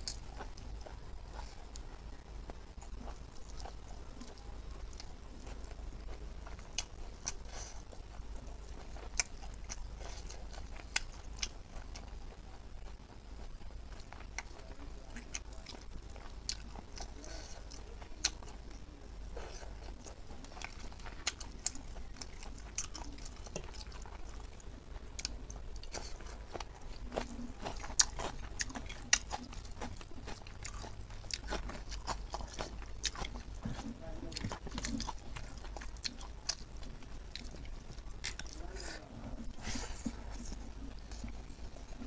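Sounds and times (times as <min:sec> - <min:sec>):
wet chewing: 0:00.0 - 0:42.0.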